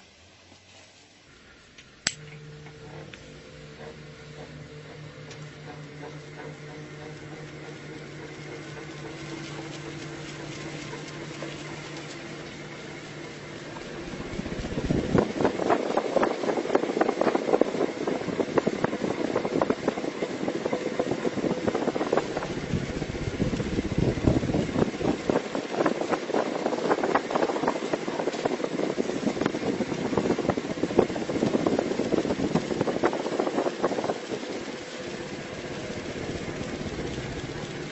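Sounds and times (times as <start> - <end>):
ceiling fan rattling clatter: 2.8 - 37.9.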